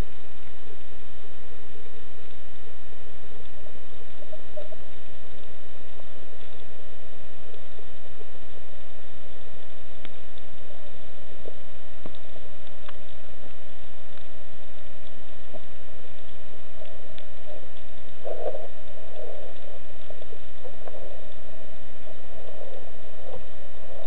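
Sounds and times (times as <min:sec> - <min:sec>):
underwater hum: 0:00.0 - 0:24.0.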